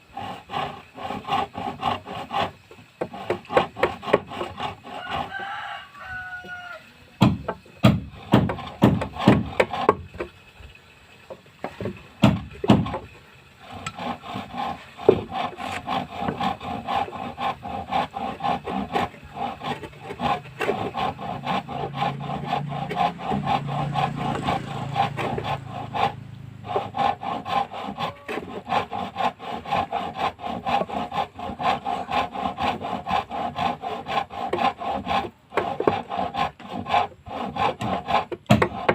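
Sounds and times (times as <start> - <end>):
hand tool scraping wood: 0.0 - 10.4, 11.2 - 38.9.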